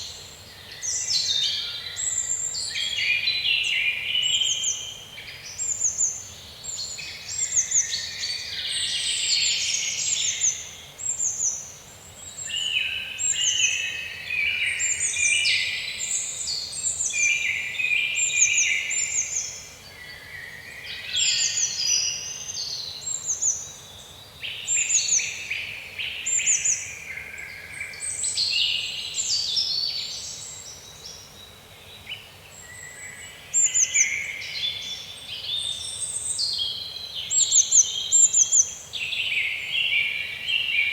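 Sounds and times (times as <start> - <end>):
faint steady background hiss: 0.0 - 40.9
songbirds singing and chirping: 0.0 - 40.9.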